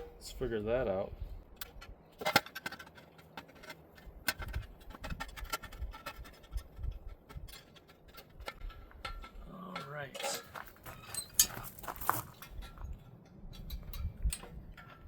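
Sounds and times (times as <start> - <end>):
wire clicking and scraping: 1.5 - 15.0.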